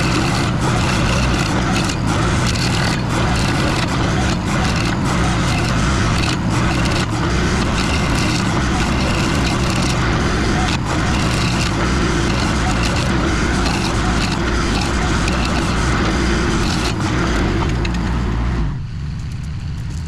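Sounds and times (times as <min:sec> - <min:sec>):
stump grinder grinding: 0:00.0 - 0:18.8
skid steer engine under load: 0:00.0 - 0:20.0.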